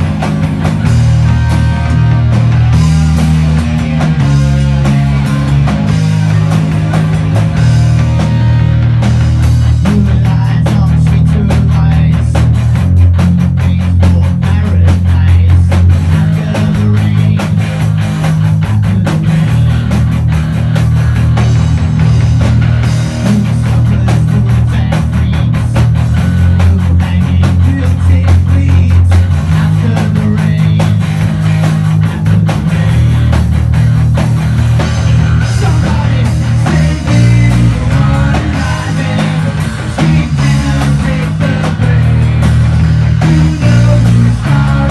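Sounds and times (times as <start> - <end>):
dense steady drumming: 0.0 - 44.9
electric bass line: 0.0 - 44.9
live rock band playing: 0.0 - 44.9.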